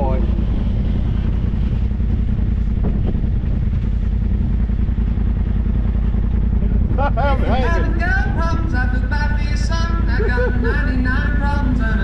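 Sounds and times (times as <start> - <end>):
utility vehicle engine idling: 0.0 - 12.0.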